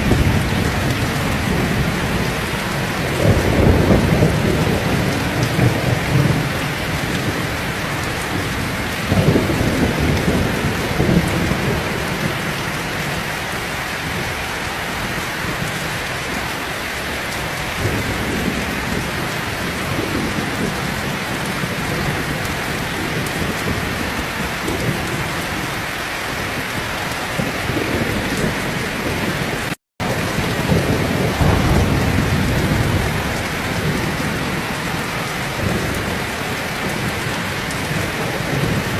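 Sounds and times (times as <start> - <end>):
thunder rolling: 0.0 - 13.4, 15.4 - 25.8, 26.4 - 38.9
heavy rain falling: 0.0 - 38.9.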